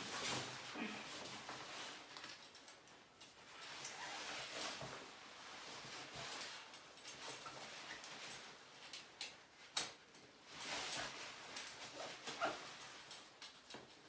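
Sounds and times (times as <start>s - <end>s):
shower curtain rustling: 0.0s - 14.0s.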